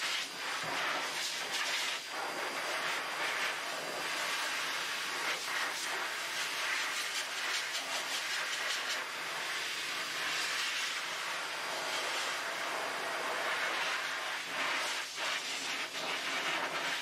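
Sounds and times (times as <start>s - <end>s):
pet dryer blowing air: 0.0s - 17.0s.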